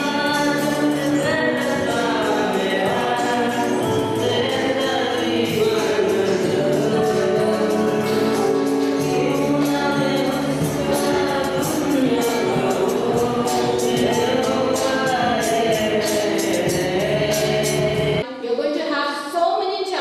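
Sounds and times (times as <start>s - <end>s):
electronic keyboard: 0.0s - 18.2s
group singing worship song: 0.0s - 18.3s.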